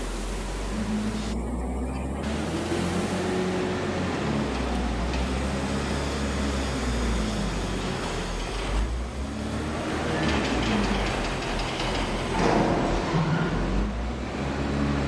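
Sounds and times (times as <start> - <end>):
wheel loader diesel engine: 0.0 - 15.0.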